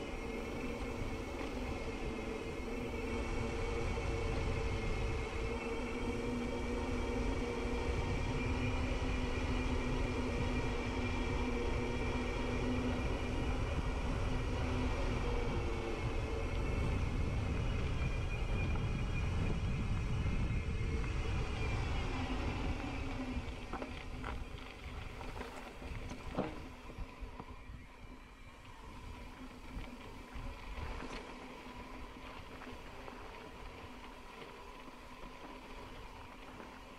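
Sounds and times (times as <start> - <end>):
bike tyres rumbling on dirt: 0.0 - 36.9
wind rumbling on microphone: 0.0 - 36.9.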